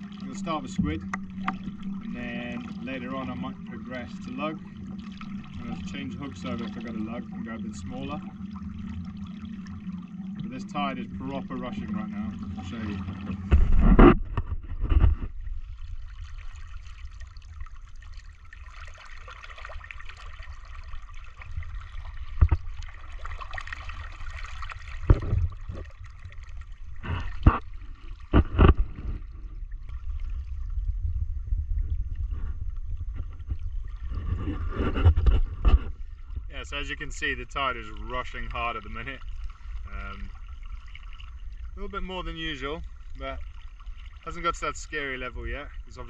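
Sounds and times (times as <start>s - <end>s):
water current rushing and gurgling: 0.0s - 46.0s.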